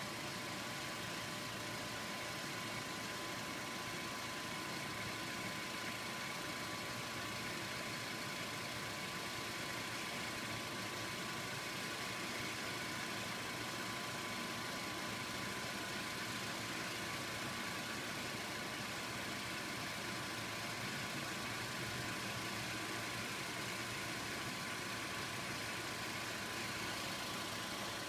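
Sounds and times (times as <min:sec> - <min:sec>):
car engine idling: 0:00.1 - 0:28.0.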